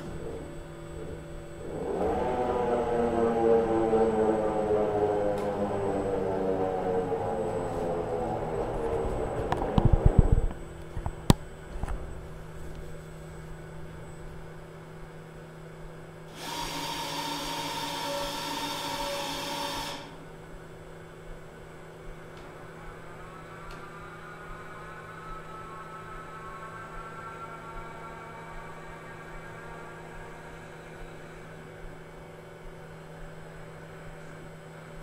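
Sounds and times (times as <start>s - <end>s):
faint rising whine: 0.0s - 16.3s, 20.1s - 35.0s
electrical hum: 0.0s - 35.0s
whirring motor with whine: 0.0s - 35.0s.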